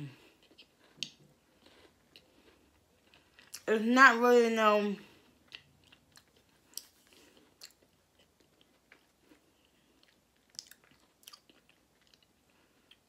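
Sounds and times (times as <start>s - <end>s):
chewing crunchy food: 0.1s - 3.7s, 5.0s - 13.0s.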